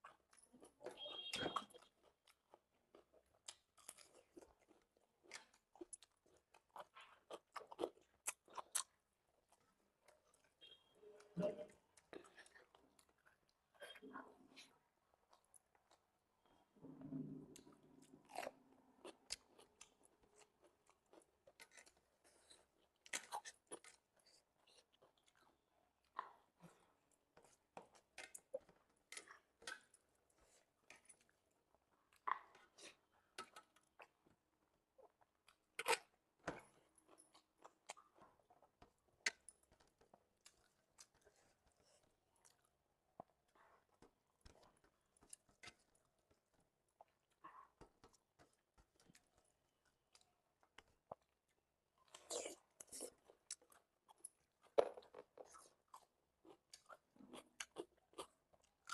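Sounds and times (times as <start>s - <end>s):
chewing and mouth clicks: 0.0s - 10.6s, 17.6s - 58.9s.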